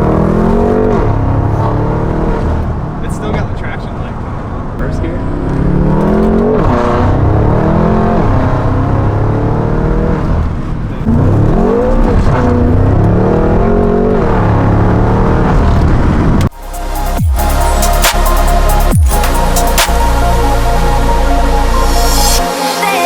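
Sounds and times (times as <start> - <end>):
car engine accelerating hard: 0.0 - 22.4.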